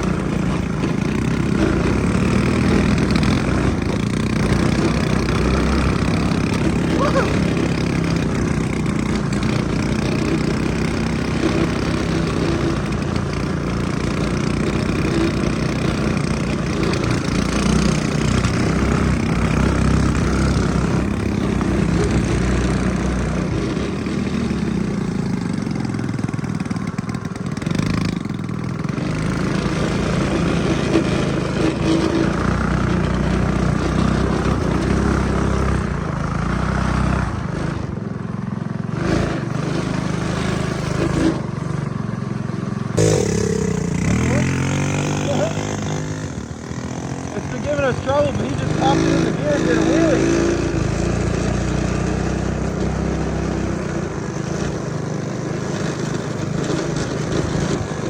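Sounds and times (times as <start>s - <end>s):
small gasoline engine revving: 0.0s - 58.0s.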